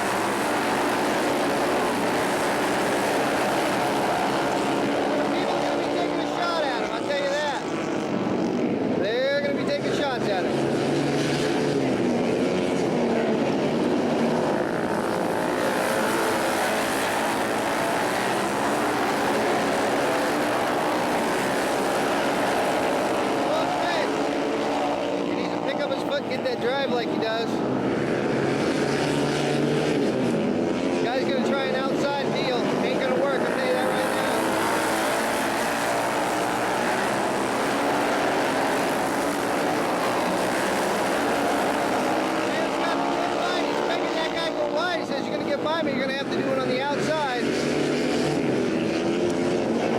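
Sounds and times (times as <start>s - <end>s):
racing motorcycle engines revving: 0.0s - 49.9s.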